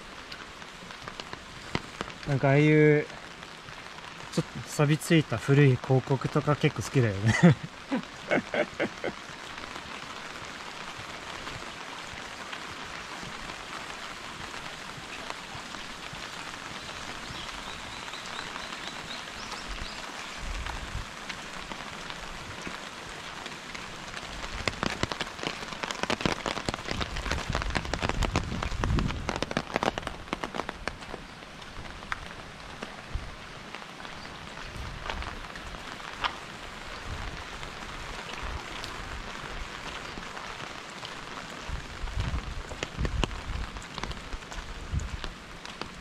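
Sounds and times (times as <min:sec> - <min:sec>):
loud raindrops pattering: 0:00.0 - 0:46.0
steady rain hiss: 0:00.0 - 0:46.0.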